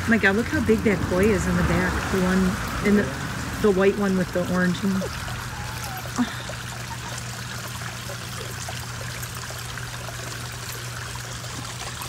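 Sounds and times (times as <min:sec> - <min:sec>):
water drips: 0:00.0 - 0:12.0
water trickling into a pond: 0:00.0 - 0:12.0.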